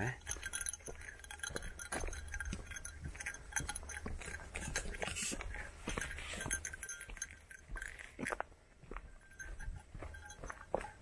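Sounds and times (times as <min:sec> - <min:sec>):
light metallic clinking: 0:00.0 - 0:11.0
footsteps crunching on gravel: 0:00.4 - 0:11.0.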